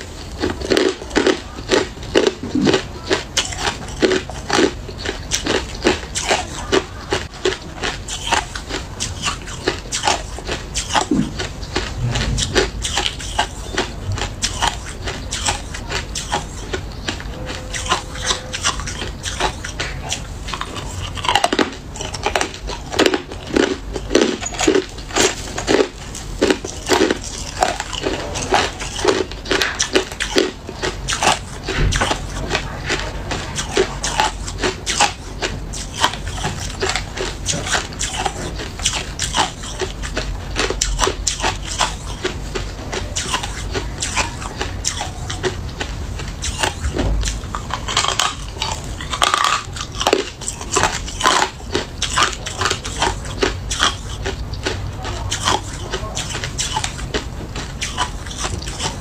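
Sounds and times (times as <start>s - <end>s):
ice being chewed: 0.0s - 59.0s.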